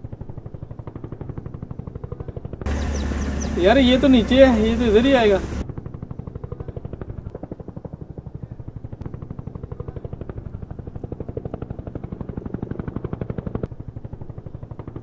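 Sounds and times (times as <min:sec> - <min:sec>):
helicopter rotor blades beating: 0:00.0 - 0:15.0.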